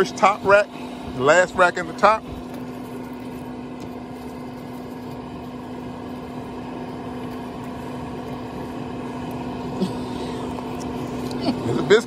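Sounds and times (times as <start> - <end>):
smoker humming: 0.0 - 12.0.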